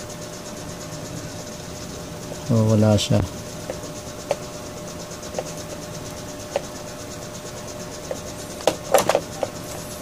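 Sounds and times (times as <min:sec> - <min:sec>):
background hiss and hum: 0:00.0 - 0:10.0.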